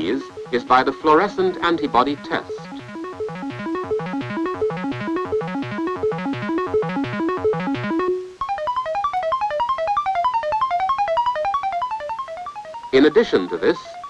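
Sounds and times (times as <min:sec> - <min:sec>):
fast keyboard-like music: 0:00.0 - 0:14.0.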